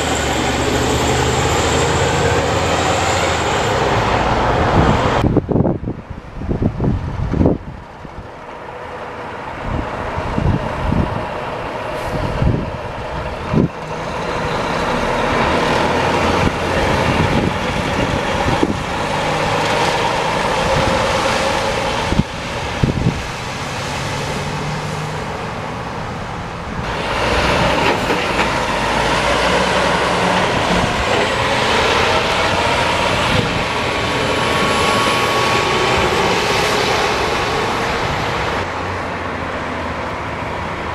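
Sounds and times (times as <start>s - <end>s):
heavy trucks passing: 0.0s - 40.9s.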